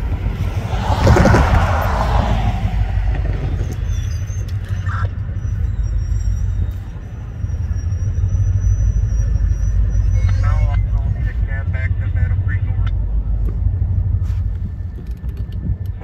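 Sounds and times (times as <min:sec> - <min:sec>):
locomotive diesel engine rumbling: 0:00.0 - 0:14.2.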